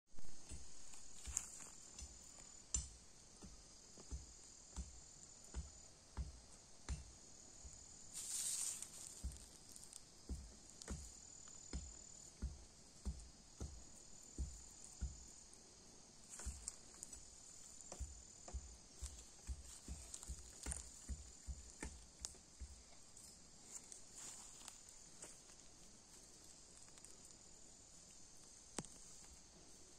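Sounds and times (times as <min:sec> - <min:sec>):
soft low thumps: 0:00.2 - 0:15.5, 0:16.2 - 0:27.1
insects chirring: 0:00.2 - 0:29.9.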